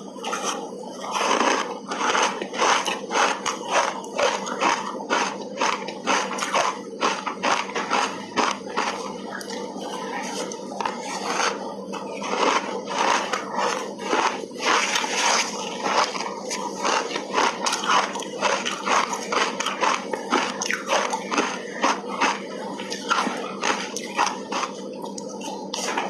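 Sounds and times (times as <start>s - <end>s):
crunching and chewing ice: 0.2s - 26.0s.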